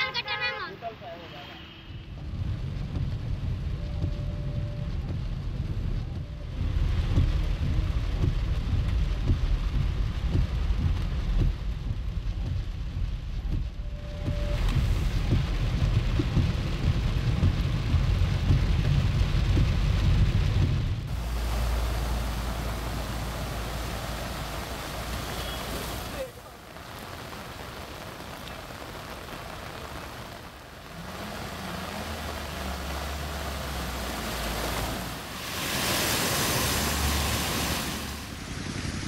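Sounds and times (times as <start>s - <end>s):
flowing floodwater: 0.0s - 39.0s
heavy rain drumming on a car: 2.0s - 39.0s.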